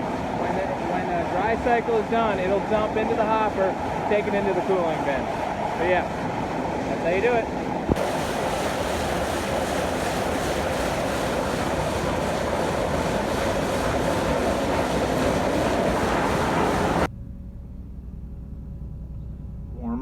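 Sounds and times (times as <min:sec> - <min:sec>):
grain dryer fan rushing: 0:00.0 - 0:17.1
quiet engine hum: 0:00.0 - 0:20.0.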